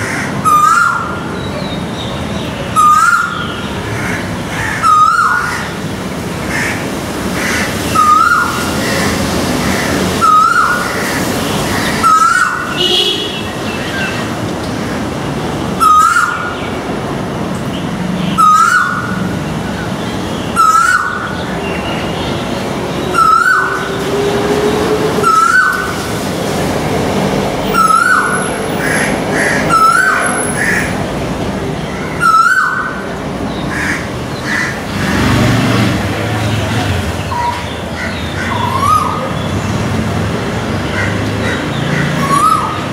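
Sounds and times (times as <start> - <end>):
road traffic noise: 0.0 - 42.9.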